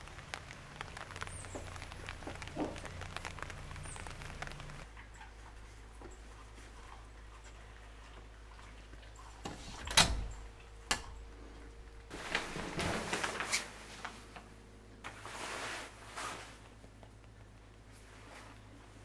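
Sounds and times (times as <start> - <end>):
rustling with small clicks: 0.0 - 15.4.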